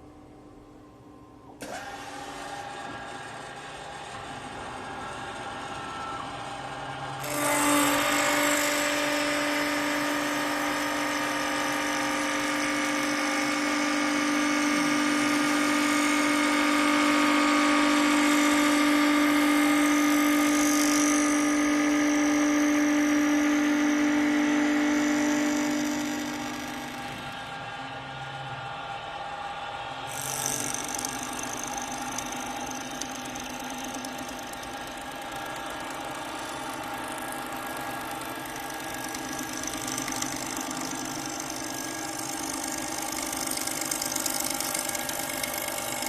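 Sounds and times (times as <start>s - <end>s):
quiet machine hum: 0.0s - 46.0s
lathe motor whine with cutting: 1.6s - 46.0s.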